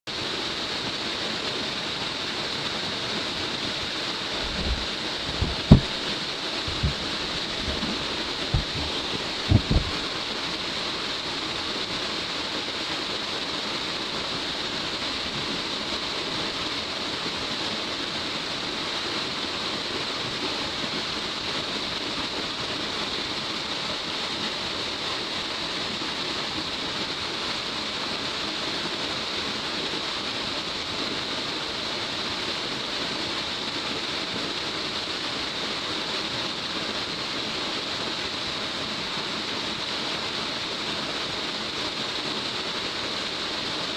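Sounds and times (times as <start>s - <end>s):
waterfall rushing: 0.1s - 43.9s.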